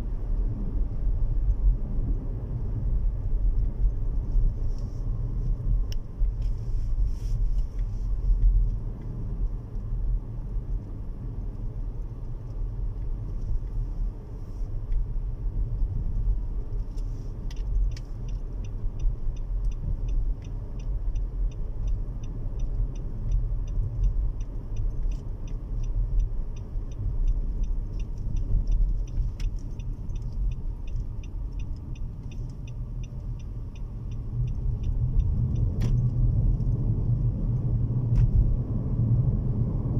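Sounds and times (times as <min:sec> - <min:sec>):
car engine and road noise: 0:00.0 - 0:39.9
light regular ticking: 0:03.3 - 0:39.4.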